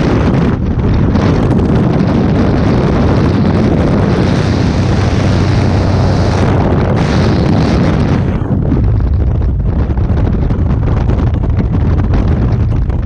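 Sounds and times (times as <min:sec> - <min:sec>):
aircraft engine and propeller hum: 0:00.0 - 0:13.0
wind blasting microphone: 0:00.0 - 0:13.0.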